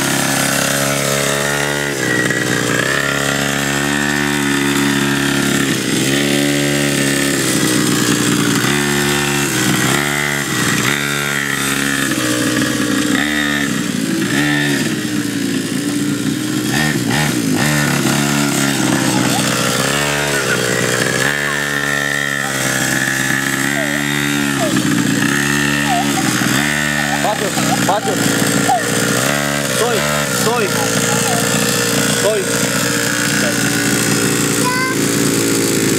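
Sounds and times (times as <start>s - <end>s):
small two-stroke engine revving: 0.0s - 35.9s.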